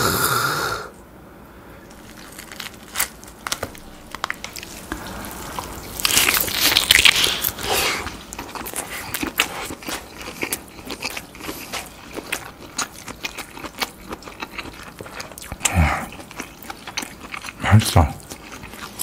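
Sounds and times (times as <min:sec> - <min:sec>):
low hum from person: 0:00.0 - 0:19.0
person chewing: 0:01.9 - 0:19.0.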